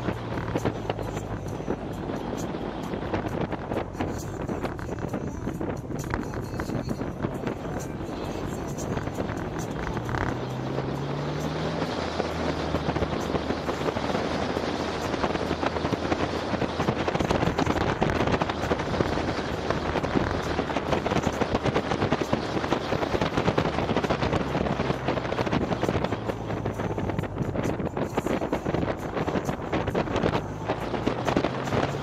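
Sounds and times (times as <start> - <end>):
vehicle engine humming: 0.0 - 32.0
wind buffeting microphone: 0.0 - 32.0.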